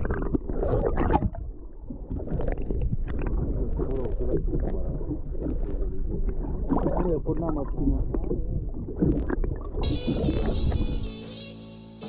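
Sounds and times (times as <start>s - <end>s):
camera splashing underwater: 0.0s - 10.9s
underwater rumble and gurgling: 0.0s - 11.0s.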